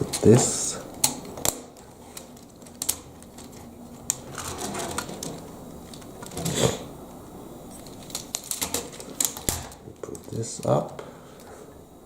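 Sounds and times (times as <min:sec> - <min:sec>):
plastic pieces clicking and clattering: 0:00.0 - 0:06.6, 0:07.8 - 0:11.0.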